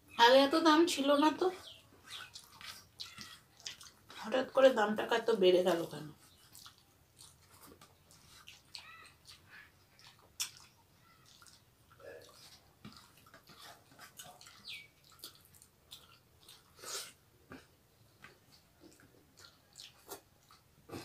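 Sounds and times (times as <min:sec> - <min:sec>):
wet chewing and lip smacks: 0:01.6 - 0:04.6, 0:06.1 - 0:21.0.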